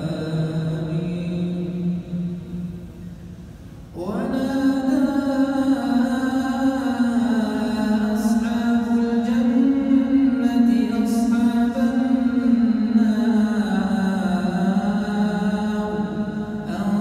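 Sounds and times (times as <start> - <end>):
man chanting: 0.0 - 2.7, 3.9 - 17.0.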